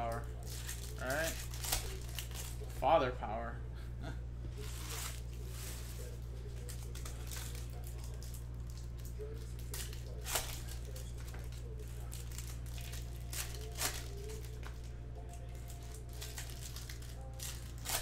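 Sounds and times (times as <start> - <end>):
foil wrapper crinkling and tearing: 0.0 - 2.8, 4.6 - 18.0
steady low hum: 0.0 - 18.0.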